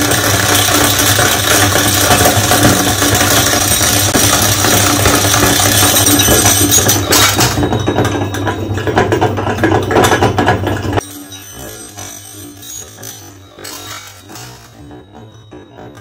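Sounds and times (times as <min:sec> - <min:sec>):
marbles clicking and rattling: 0:00.0 - 0:09.1, 0:11.0 - 0:15.4
meat grinder humming: 0:00.0 - 0:16.0.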